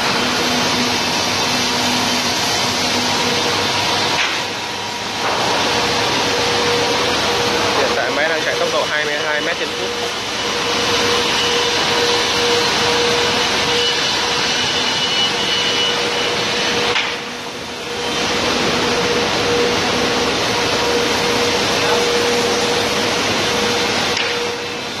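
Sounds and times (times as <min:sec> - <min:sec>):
planer machine droning: 0:00.0 - 0:25.0.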